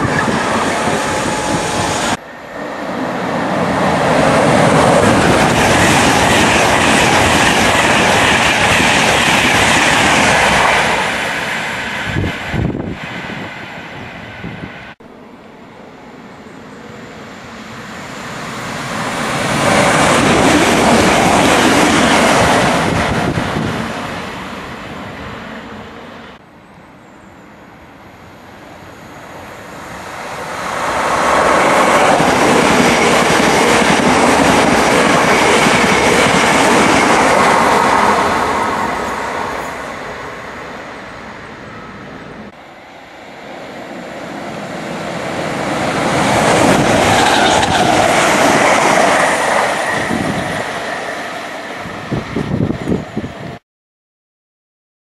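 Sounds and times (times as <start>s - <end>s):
trains passing through: 0.0s - 53.6s.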